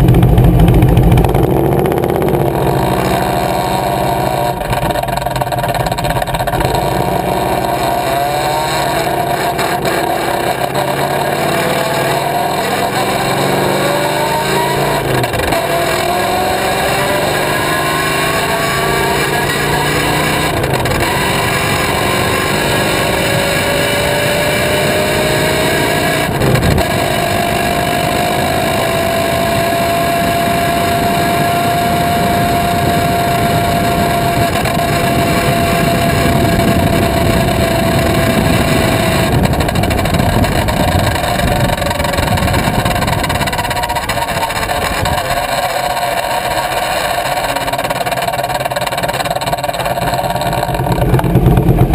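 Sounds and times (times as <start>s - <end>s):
motorcycle engine and drivetrain: 0.0s - 51.9s
road and wind noise: 0.0s - 51.9s
whining tone: 0.0s - 51.9s.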